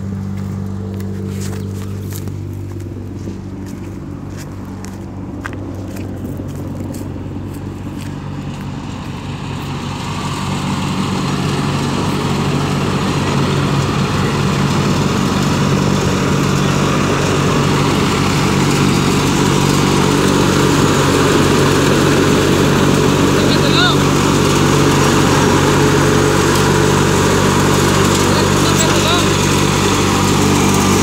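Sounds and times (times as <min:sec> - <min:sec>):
grain thresher running: 0:00.0 - 0:31.0
low engine hum: 0:00.0 - 0:31.0.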